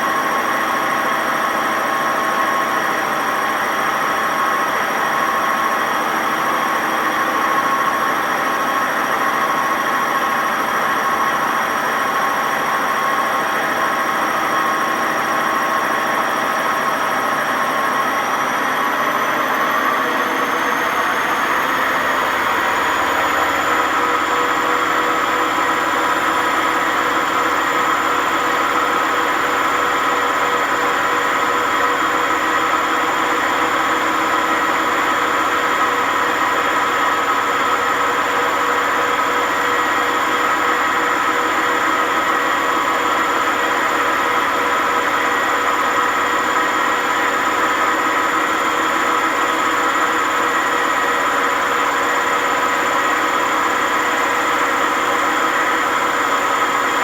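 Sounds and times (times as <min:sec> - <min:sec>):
washing machine spinning: 0:00.0 - 0:57.0
whine and rumble of drum bearings: 0:00.0 - 0:57.0.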